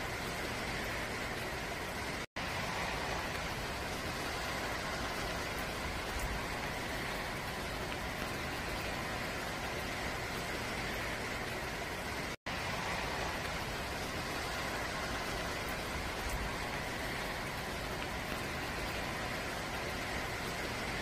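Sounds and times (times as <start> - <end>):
outdoor ambient hiss: 0.0 - 21.0.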